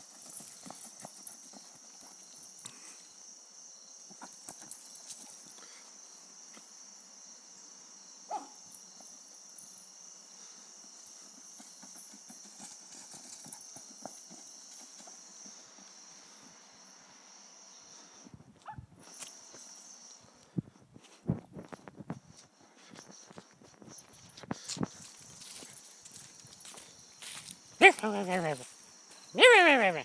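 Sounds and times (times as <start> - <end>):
steady high hiss: 0.0 - 27.8.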